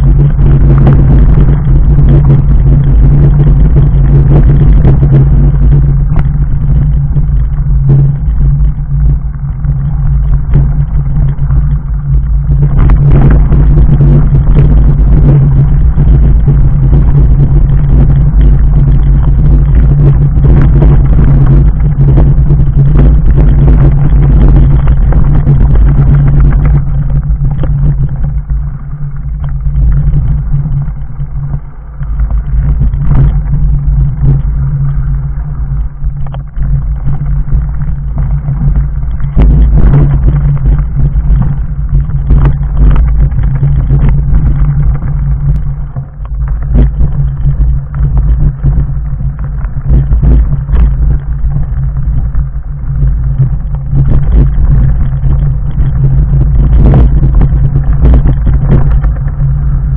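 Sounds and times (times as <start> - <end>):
bike tyres rumbling on rocky trail: 0.0 - 59.9.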